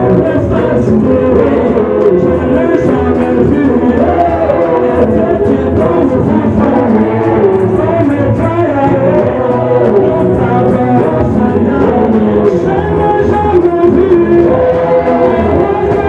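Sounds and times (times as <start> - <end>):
amplified band playing: 0.0 - 16.0
man singing into microphone: 0.0 - 16.0.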